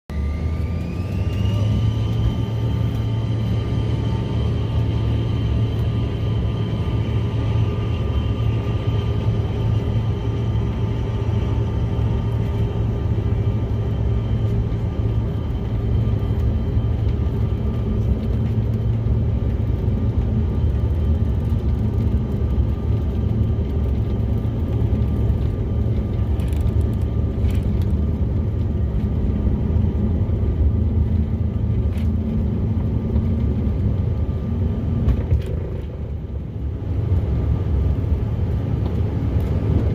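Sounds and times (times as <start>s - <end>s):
jet engines rumbling: 0.1s - 39.9s
thin engine whine: 0.1s - 39.9s.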